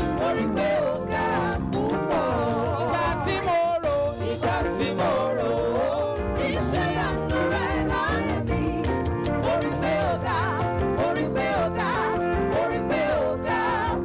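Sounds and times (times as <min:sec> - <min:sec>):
gospel band accompaniment: 0:00.0 - 0:14.0.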